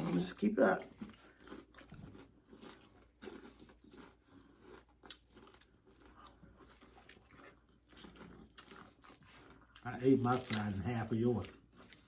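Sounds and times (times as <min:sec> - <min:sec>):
faint chewing of chips: 0:00.0 - 0:12.0.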